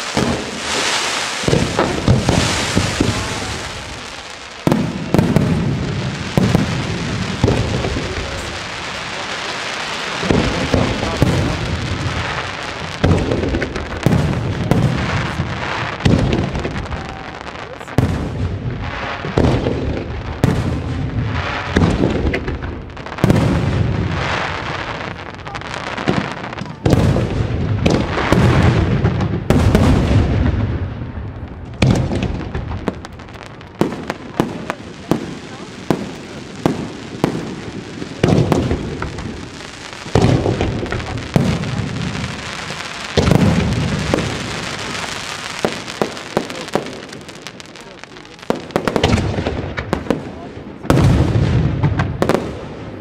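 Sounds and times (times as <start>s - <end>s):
fireworks bangs: 0.0s - 53.0s
fireworks crackling hiss: 0.0s - 53.0s.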